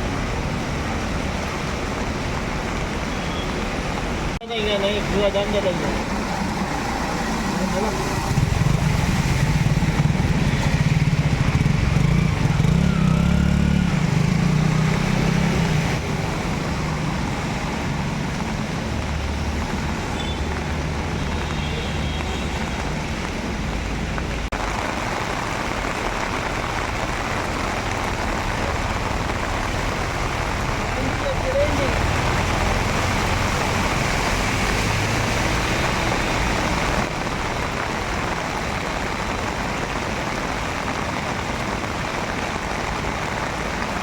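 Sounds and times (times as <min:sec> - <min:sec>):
street traffic noise: 0:00.0 - 0:44.0.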